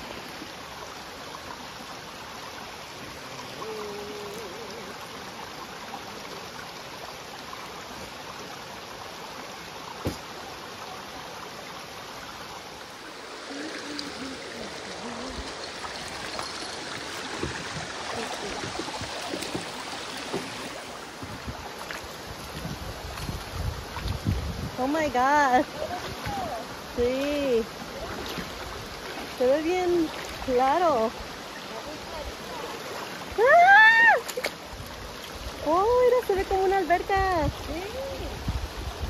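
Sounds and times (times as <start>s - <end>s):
water flowing over rocks: 0.0s - 39.0s.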